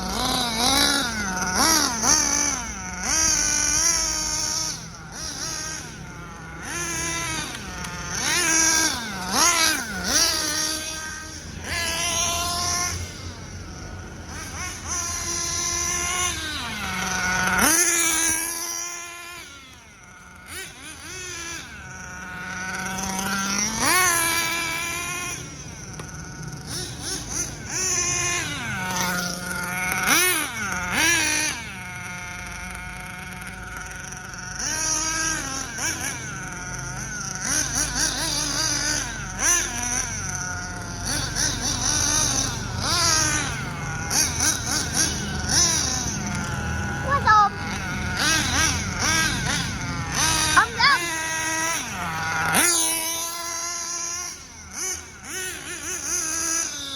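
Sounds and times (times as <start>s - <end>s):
nitro engine revving: 0.0s - 56.9s.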